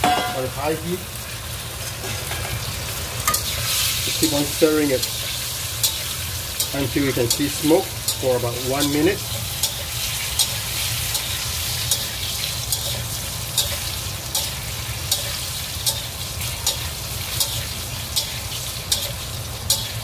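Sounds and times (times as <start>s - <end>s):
chicken sizzling in hot oil: 0.0s - 20.0s
utensil scraping wok: 1.8s - 20.0s.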